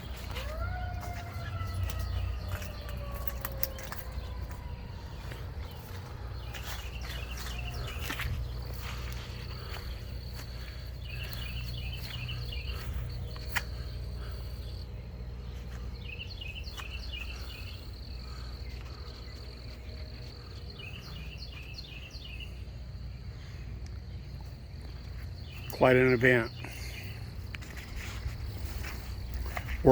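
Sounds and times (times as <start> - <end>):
low steady hum: 0.0 - 25.8
high insect drone: 0.0 - 29.9.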